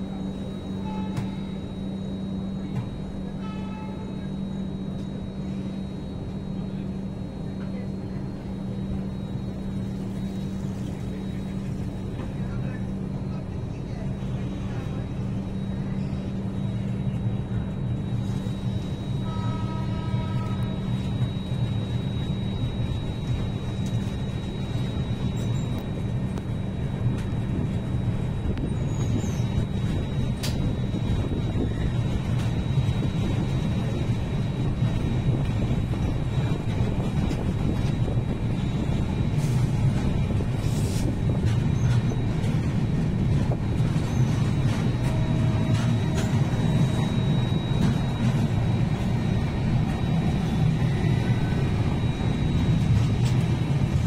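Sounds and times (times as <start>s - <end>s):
faint high steady whine: 0.0s - 54.0s
train rumbling on rails: 0.0s - 54.0s.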